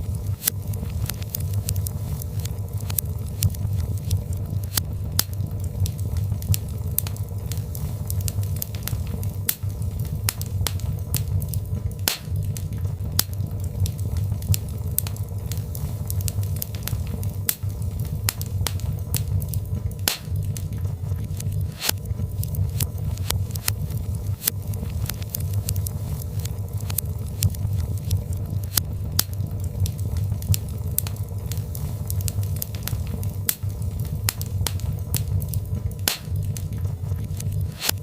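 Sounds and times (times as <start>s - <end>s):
logs crackling and popping in fire: 0.0s - 38.0s
low fire rumble: 0.0s - 38.0s.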